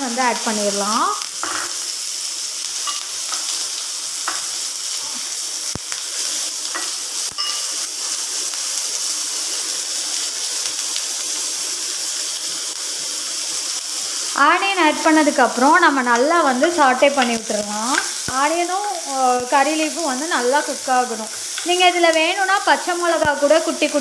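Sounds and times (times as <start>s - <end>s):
onion sizzling in hot oil: 0.0s - 24.0s.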